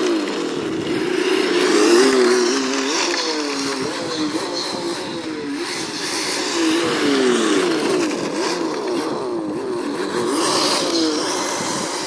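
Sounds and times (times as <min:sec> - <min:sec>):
toy car motor revving: 0:00.0 - 0:12.0
tyres hissing on asphalt: 0:00.0 - 0:12.0.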